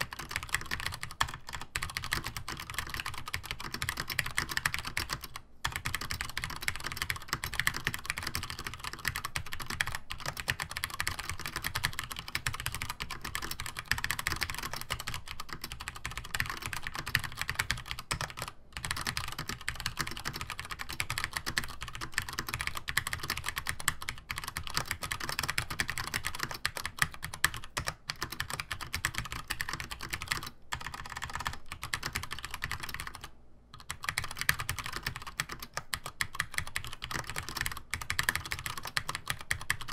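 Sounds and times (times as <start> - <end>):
keyboard typing clacks: 0.0 - 39.9.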